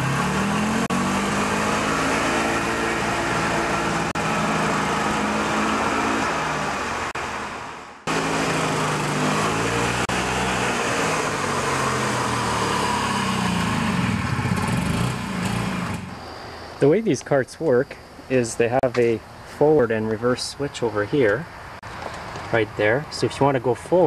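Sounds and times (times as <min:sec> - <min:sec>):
golf cart engine running: 0:00.0 - 0:24.0.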